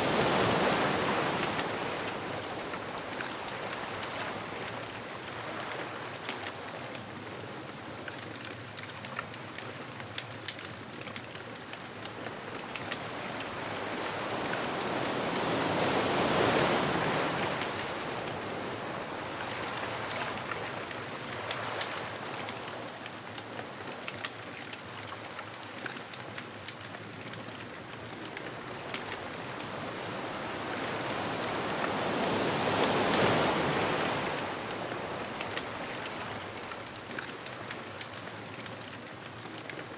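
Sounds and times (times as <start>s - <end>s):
ocean waves washing ashore: 0.0s - 8.0s, 10.7s - 39.9s
bonfire crackling: 0.1s - 39.9s.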